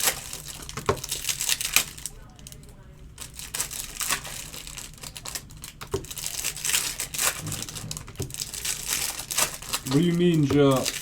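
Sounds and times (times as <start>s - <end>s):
card pack wrappers crinkling: 0.0s - 2.6s, 3.2s - 11.0s.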